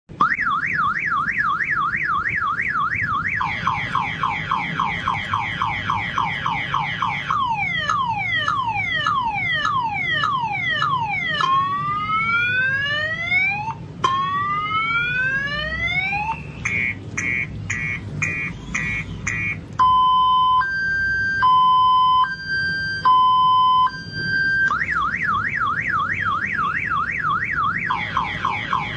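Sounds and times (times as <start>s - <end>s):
car alarm siren: 0.1s - 28.9s.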